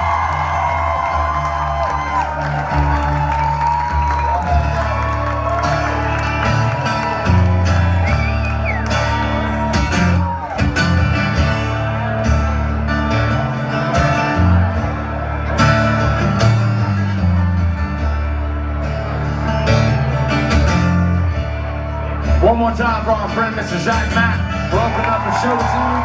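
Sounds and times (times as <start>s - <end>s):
live rock band playing: 1.2s - 22.4s.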